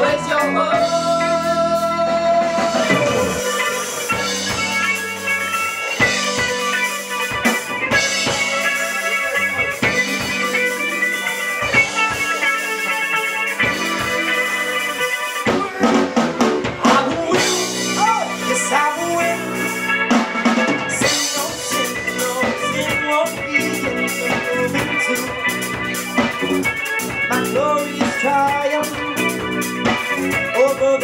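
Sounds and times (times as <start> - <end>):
instrumental band music: 0.0 - 31.0.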